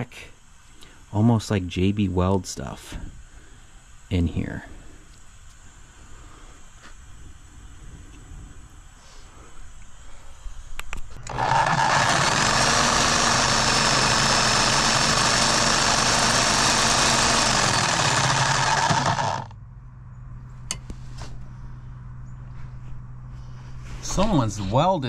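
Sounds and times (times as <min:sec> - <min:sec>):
faint motor whine: 0:00.0 - 0:25.0.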